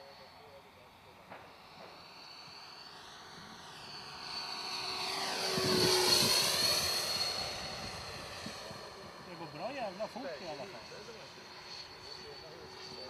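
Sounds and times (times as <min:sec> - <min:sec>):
model jet whine and rush of air: 0:00.0 - 0:13.0.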